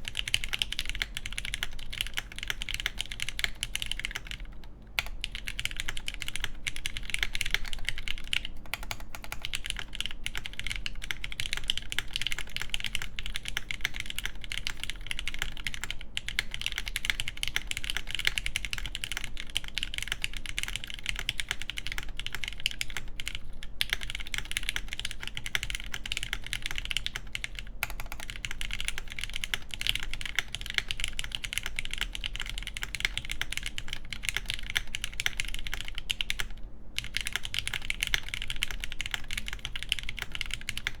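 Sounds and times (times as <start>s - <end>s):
fast typing on mechanical keyboard: 0.0s - 41.0s.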